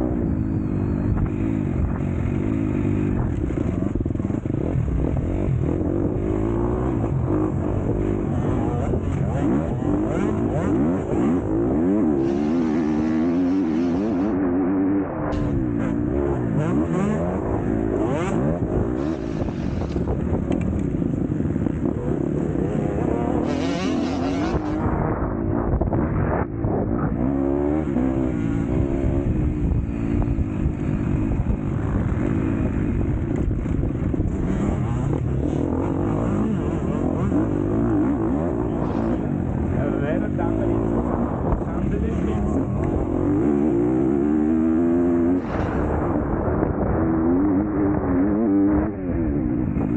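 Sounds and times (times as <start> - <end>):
motocross bike engine revving: 0.0 - 49.9.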